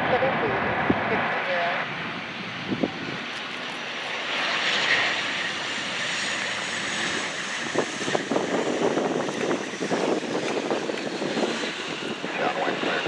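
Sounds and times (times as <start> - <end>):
airplane engine passing: 0.0 - 13.0.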